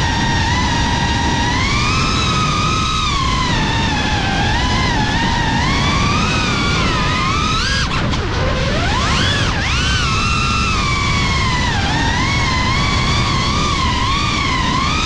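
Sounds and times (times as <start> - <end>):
drone motors and propellers whining: 0.0 - 15.0
rush of prop wash and wind: 0.0 - 15.0.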